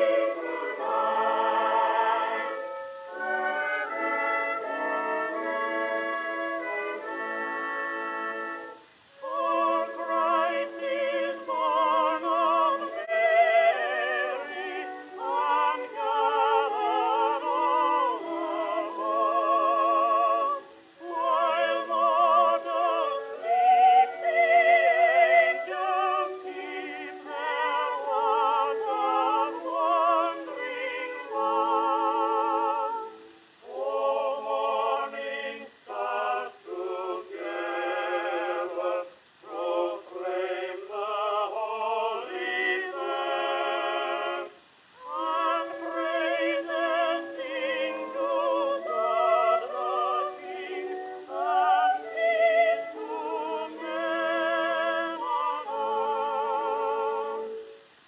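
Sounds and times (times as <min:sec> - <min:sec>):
operatic singing: 0:00.0 - 0:58.0.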